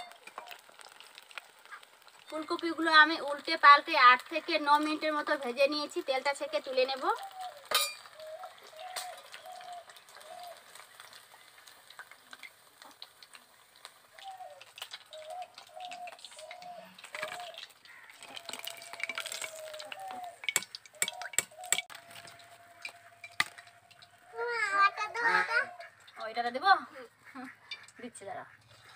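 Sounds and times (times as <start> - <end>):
oil sizzling: 0.0 - 28.9.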